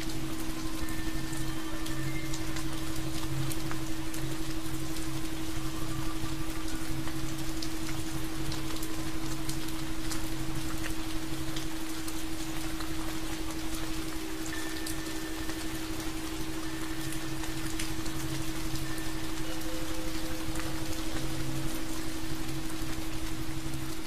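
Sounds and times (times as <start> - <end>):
low steady hum: 0.0 - 24.0
rain falling: 0.0 - 24.0.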